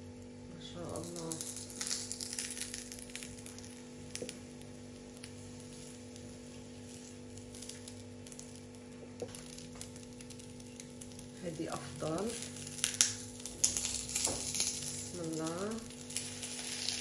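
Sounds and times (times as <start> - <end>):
batter sizzling in oil: 0.4 - 17.0.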